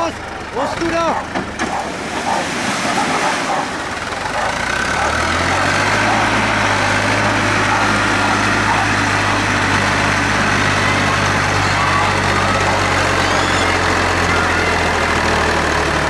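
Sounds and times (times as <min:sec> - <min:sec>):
tractor engine running hard: 0:00.0 - 0:16.0.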